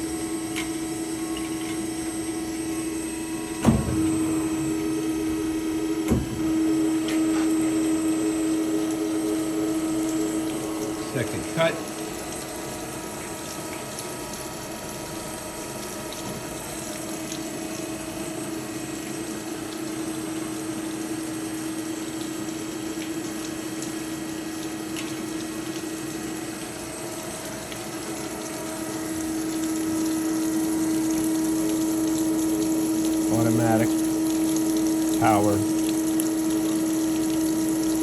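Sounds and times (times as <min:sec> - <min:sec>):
coolant flowing: 0:00.0 - 0:38.0.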